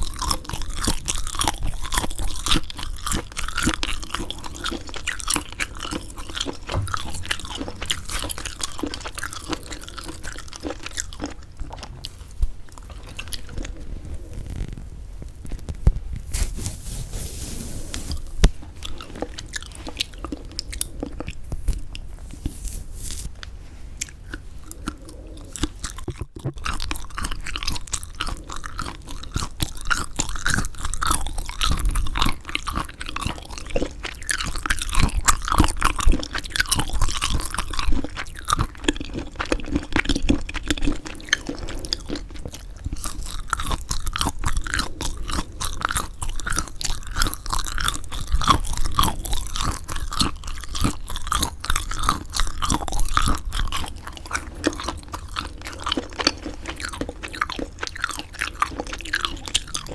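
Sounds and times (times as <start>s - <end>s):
chewing and biting dried squid: 0.0s - 15.8s, 18.2s - 22.4s, 23.3s - 59.9s.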